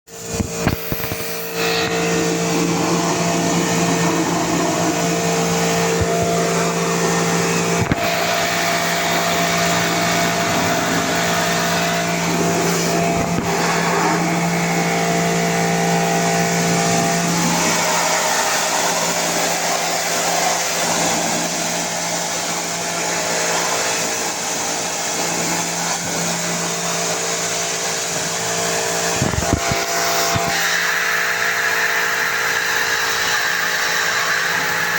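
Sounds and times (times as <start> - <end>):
pressure washer motor hum: 0.1 - 34.9
water spray hissing: 0.3 - 34.9.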